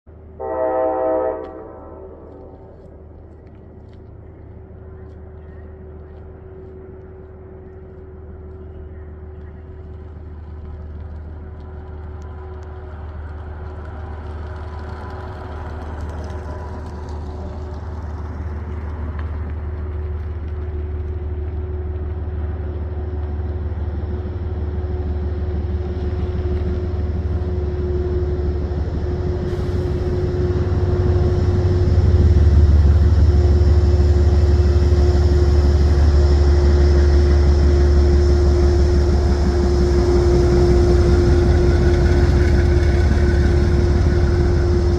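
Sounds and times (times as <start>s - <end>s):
diesel locomotive engine rumble: 0.0s - 44.9s.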